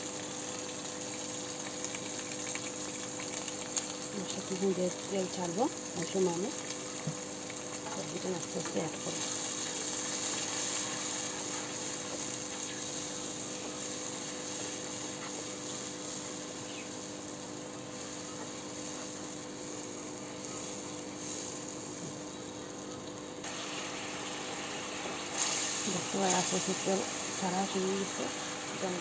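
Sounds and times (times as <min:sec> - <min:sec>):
paste sizzling in hot oil: 0:00.0 - 0:29.0.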